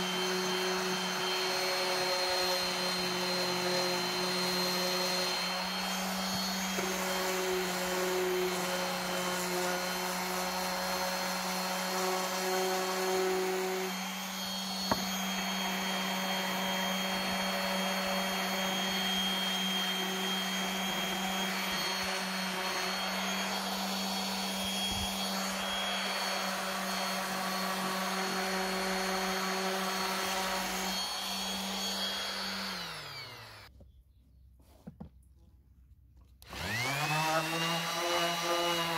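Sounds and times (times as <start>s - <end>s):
orbital sander on wood: 0.0s - 33.7s, 36.4s - 38.9s.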